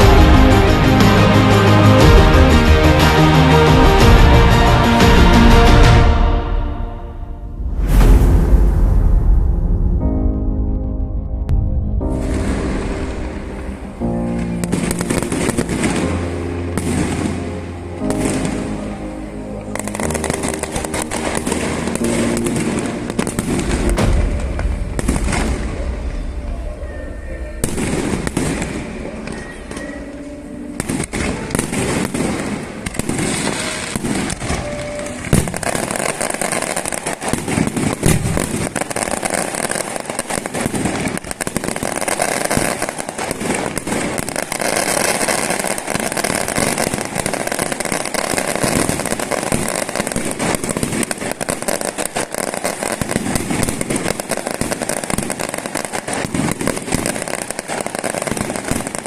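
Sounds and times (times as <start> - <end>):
fireworks crackling: 0.0 - 9.5, 12.1 - 59.0.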